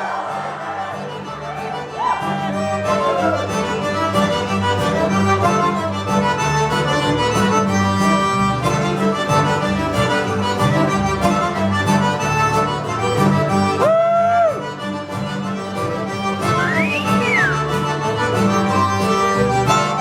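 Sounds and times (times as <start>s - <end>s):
fiddle: 0.0s - 20.0s
string-band music with accordion: 0.0s - 20.0s.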